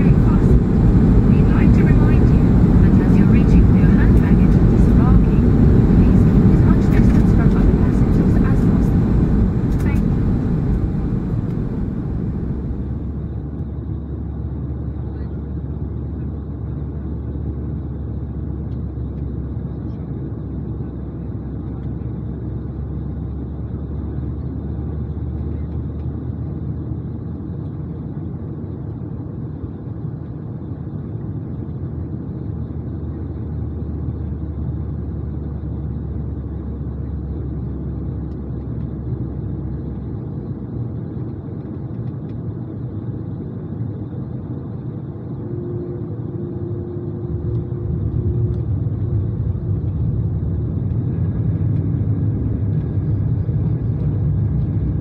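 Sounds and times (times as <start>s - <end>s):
aircraft cabin engine rumble: 0.0s - 55.0s.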